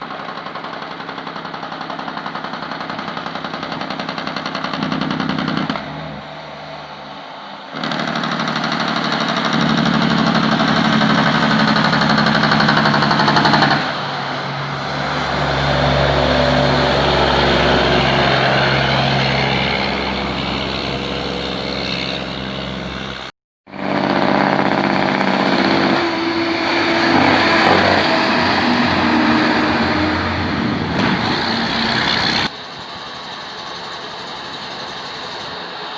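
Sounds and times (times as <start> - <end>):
diesel truck engines running: 0.0 - 35.9.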